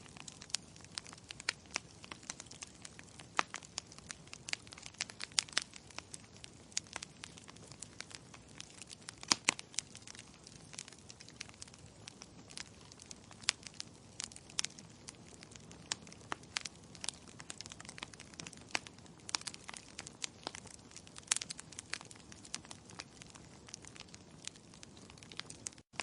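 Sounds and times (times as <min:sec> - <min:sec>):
soft steady hiss: 0:00.0 - 0:22.4
wood fire crackling and popping: 0:00.0 - 0:26.0.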